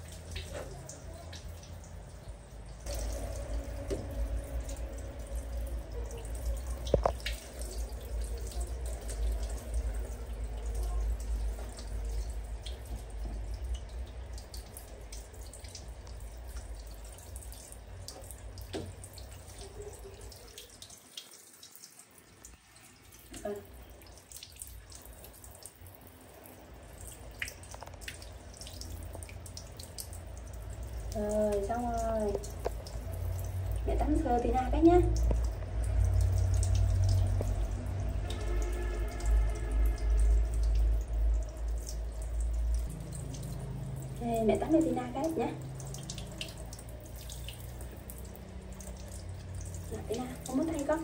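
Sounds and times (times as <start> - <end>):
shower spraying water: 0.0 - 51.0
water dripping: 0.0 - 51.0
water splashing on plastic and tile: 0.0 - 51.0.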